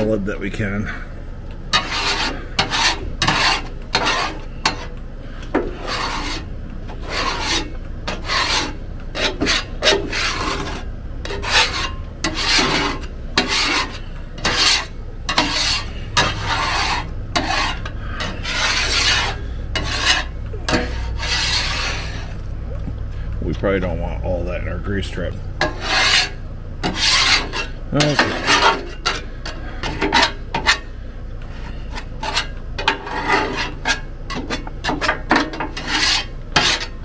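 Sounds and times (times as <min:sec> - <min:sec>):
scraper rasping across steel griddle: 0:01.7 - 0:05.0, 0:05.6 - 0:22.4, 0:25.6 - 0:37.0.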